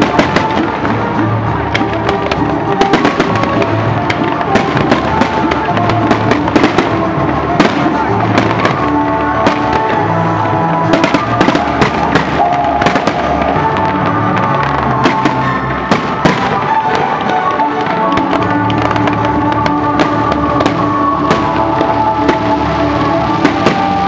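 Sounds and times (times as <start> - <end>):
fireworks bangs and crackles: 0.0 - 24.0
music: 0.0 - 24.0.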